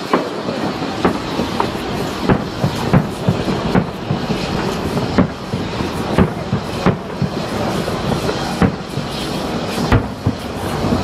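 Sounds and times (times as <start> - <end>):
crackle and hiss of fireworks: 0.0 - 11.0
fireworks shells bursting: 0.0 - 11.0.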